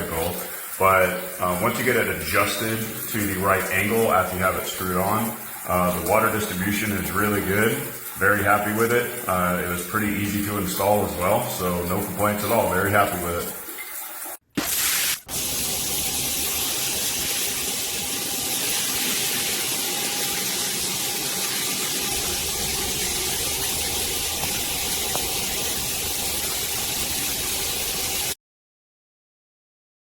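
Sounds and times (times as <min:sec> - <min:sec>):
shower water spraying: 0:00.0 - 0:28.4.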